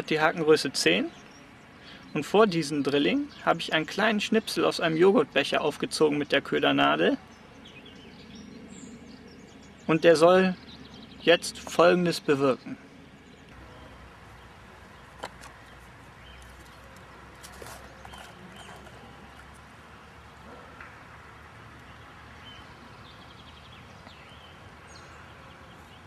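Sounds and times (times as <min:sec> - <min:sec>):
quiet outdoor hiss: 0:00.0 - 0:26.0.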